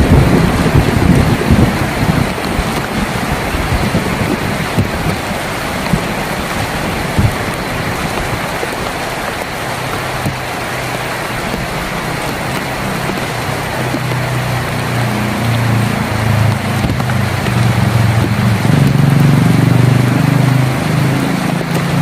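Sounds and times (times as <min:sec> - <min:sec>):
heavy rain on a tin roof: 0:00.0 - 0:22.0.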